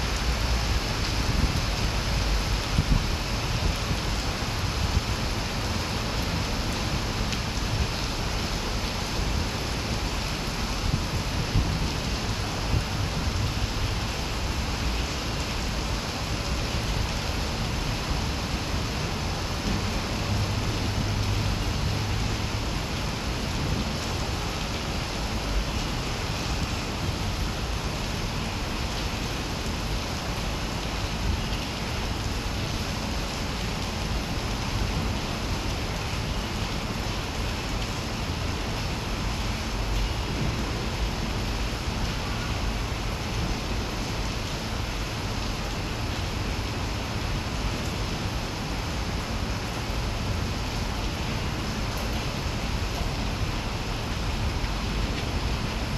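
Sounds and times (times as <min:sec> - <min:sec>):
steady rain on trees and pavement: 0:00.0 - 0:55.9.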